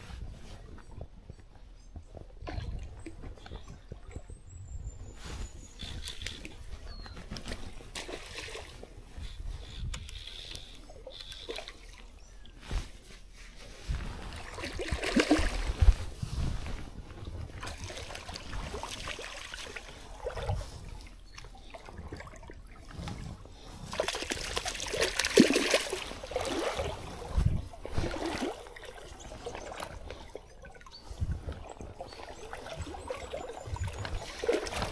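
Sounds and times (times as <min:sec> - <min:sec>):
water sloshing and trickling: 0:00.2 - 0:34.9.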